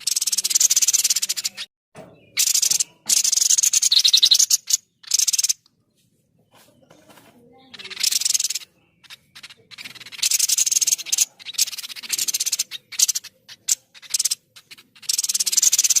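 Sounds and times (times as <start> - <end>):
bird chattering trills: 0.0 - 5.7, 6.5 - 16.0.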